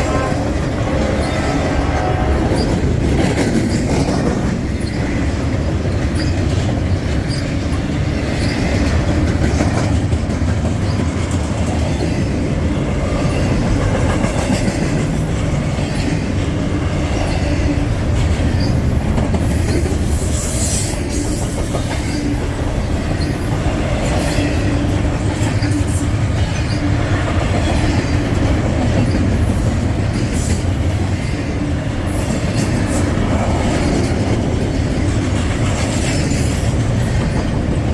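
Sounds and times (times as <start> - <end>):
freight train rumbling past: 0.0 - 37.9
wheels clattering over rail joints: 0.1 - 31.4.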